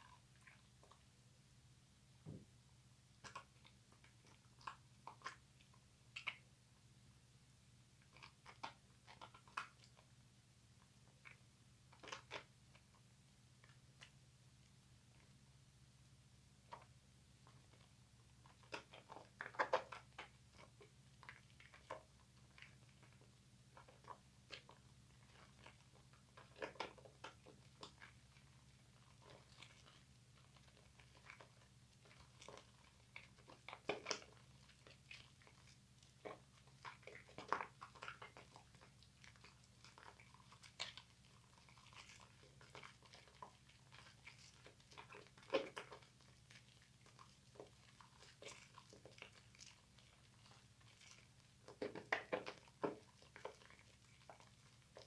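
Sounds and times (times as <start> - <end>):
wet soap lather squelching: 3.2 - 6.5, 8.0 - 10.1, 10.8 - 14.2, 16.7 - 55.0.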